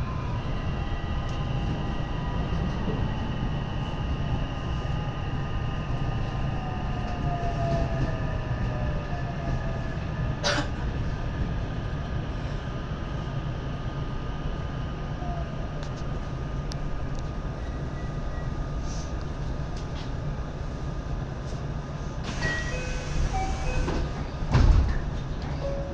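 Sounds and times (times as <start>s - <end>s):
train low rumble: 0.0s - 25.9s.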